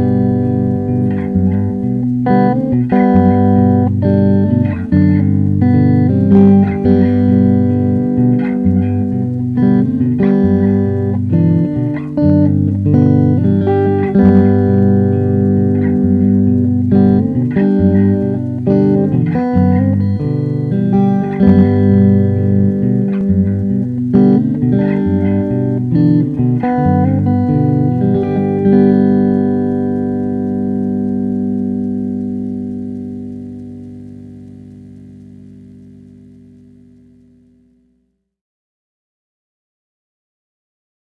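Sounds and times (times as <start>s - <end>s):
plucked guitar piece: 0.0s - 37.8s.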